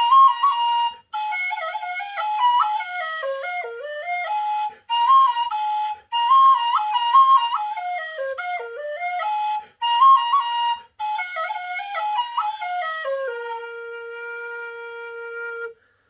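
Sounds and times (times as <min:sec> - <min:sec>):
tin whistle melody: 0:00.0 - 0:15.7.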